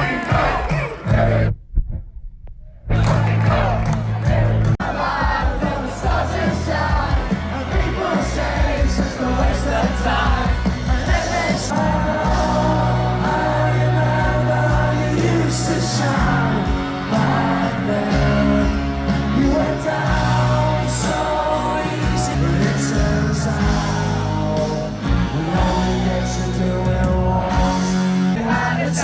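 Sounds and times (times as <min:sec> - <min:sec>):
song with heavy bass and vocals: 0:03.0 - 0:29.0.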